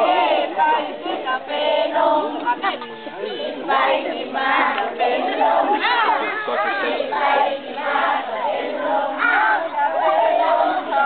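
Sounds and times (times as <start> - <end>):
children chanting and calling out: 0.0 - 11.0.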